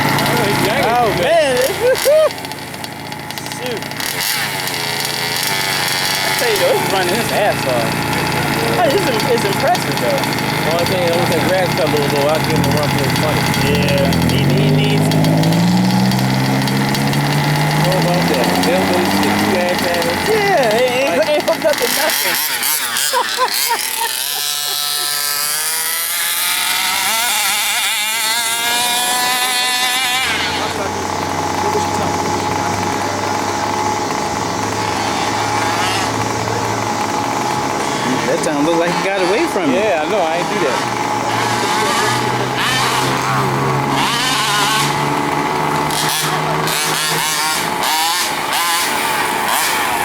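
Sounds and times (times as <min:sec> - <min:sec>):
small two-stroke engine revving: 0:00.0 - 0:50.0.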